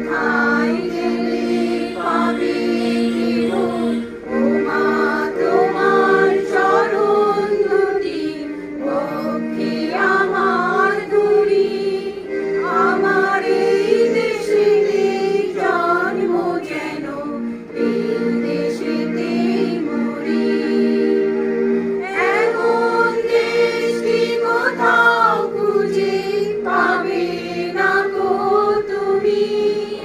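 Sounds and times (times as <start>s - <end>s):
electronic keyboard chords: 0.0s - 30.0s
group of women singing: 0.0s - 30.0s.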